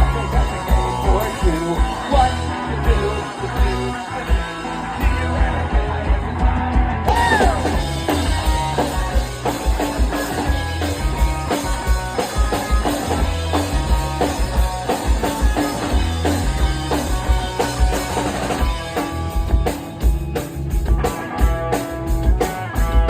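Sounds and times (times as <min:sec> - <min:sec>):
bass guitar: 0:00.0 - 0:23.0
drum kit beat: 0:00.0 - 0:23.0
electric guitars: 0:00.0 - 0:23.0.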